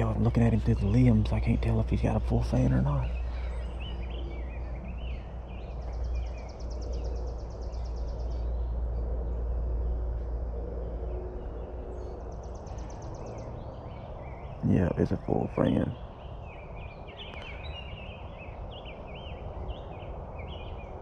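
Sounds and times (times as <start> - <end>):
songbirds chirping and warbling: 0.0 - 21.0
steady low rumble: 0.0 - 21.0.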